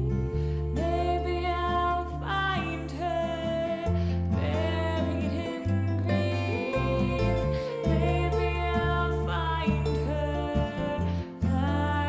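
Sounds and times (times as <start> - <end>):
person singing: 0.0 - 12.0
plucked guitar: 0.0 - 12.0
steady bass: 0.0 - 12.0.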